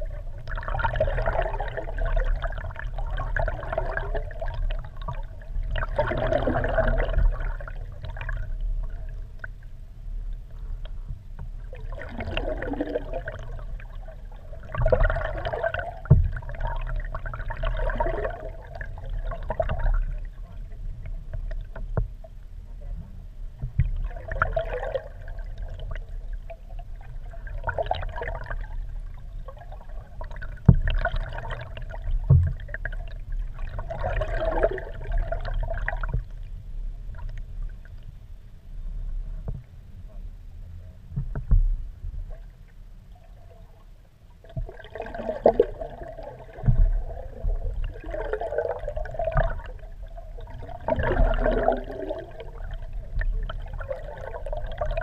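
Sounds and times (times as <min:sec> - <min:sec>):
muffled water sloshing and gurgling: 0:00.0 - 0:55.0
steady low rumble: 0:00.0 - 0:55.0.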